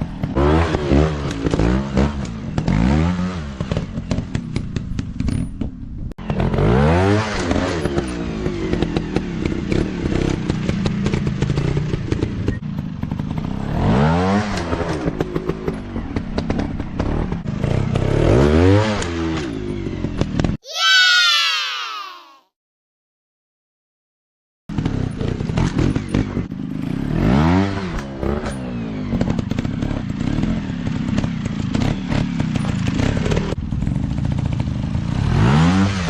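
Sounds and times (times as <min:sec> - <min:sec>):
dirt bike engine revving: 0:00.2 - 0:04.4, 0:06.2 - 0:19.6, 0:24.7 - 0:36.0.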